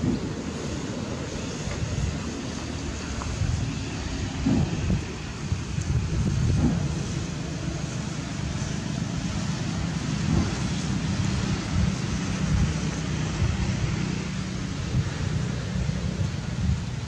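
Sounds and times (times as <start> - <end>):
steady outdoor hiss: 0.0 - 17.0
wind buffeting microphone: 0.0 - 17.0.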